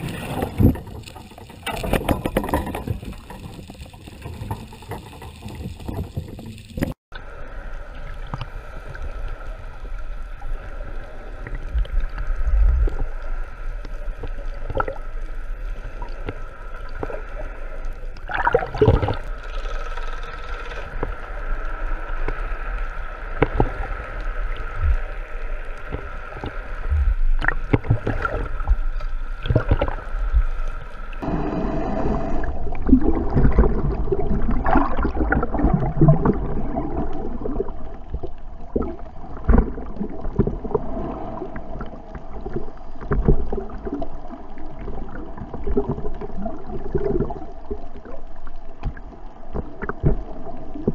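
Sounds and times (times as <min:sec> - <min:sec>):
bubbling: 0:00.0 - 0:07.0, 0:11.3 - 0:15.2, 0:15.8 - 0:21.2, 0:23.3 - 0:50.9
underwater rush of water: 0:00.0 - 0:50.9.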